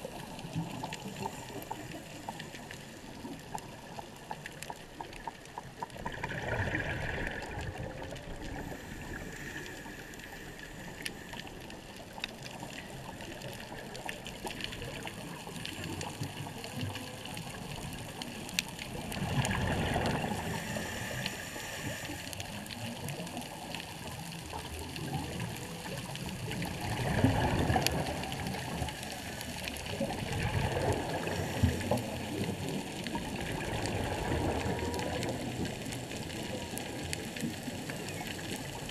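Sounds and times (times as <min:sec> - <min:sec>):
underwater crackling clicks: 0:00.0 - 0:08.7, 0:09.6 - 0:38.9
bubbling surges: 0:00.0 - 0:38.9
faint whale song: 0:00.0 - 0:38.9.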